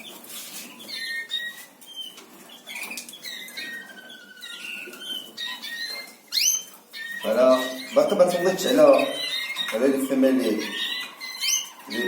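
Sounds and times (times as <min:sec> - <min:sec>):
canaries chirping and whistling: 0:00.0 - 0:12.0
wings fluttering in cages: 0:00.0 - 0:12.0.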